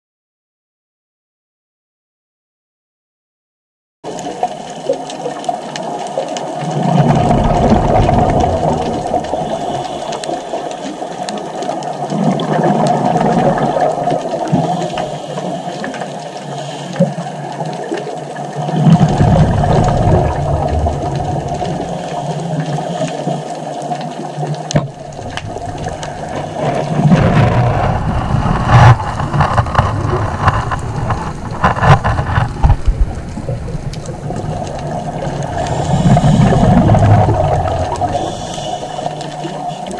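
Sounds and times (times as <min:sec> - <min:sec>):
exhaled bubbles gurgling: 0:04.1 - 0:39.9
steady underwater hiss: 0:04.1 - 0:39.9.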